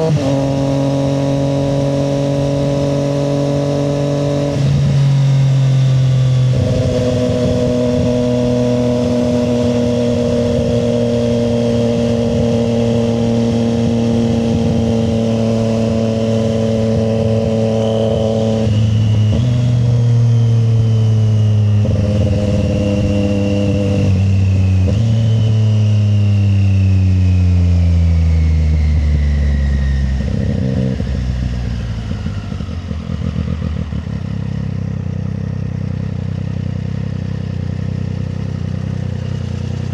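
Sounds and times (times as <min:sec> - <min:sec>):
motorcycle engine downshifting: 0:00.0 - 0:39.9.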